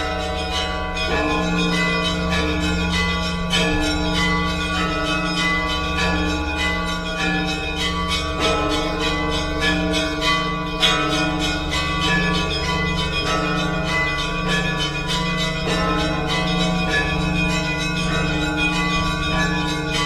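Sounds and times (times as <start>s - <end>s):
large low bells humming: 0.0s - 20.0s
small high bells ringing: 0.0s - 20.0s.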